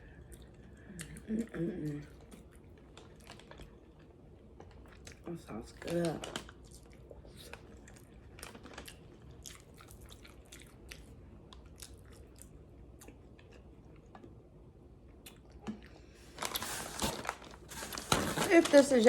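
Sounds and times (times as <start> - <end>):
soft chewing: 0.0 - 17.7.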